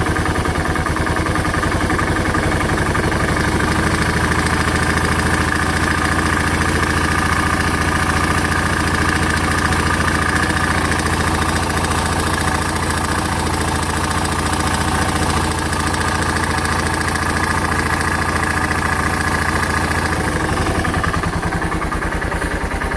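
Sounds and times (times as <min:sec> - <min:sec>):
motorcycle engine idling with knock: 0:00.0 - 0:22.9.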